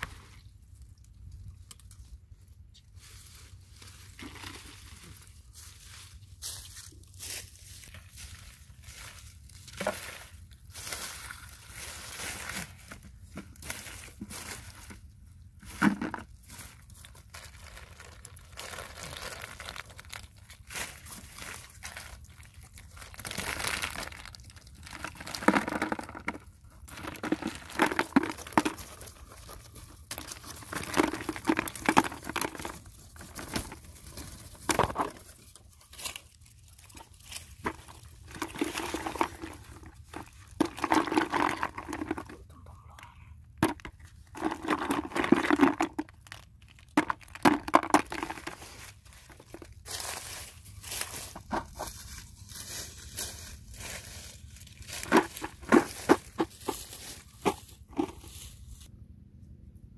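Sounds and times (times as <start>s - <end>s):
dry stalks rustling and crunching: 0.0s - 42.5s, 43.5s - 58.9s.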